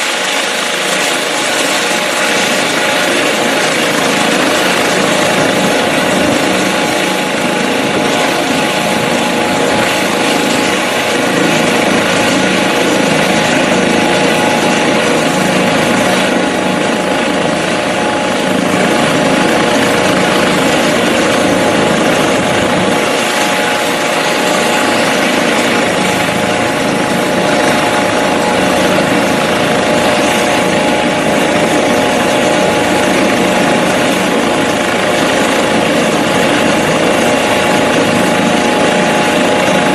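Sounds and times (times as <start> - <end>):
helicopter engine and rotor noise: 0.0 - 39.9
helicopter turbine whine: 0.0 - 39.9.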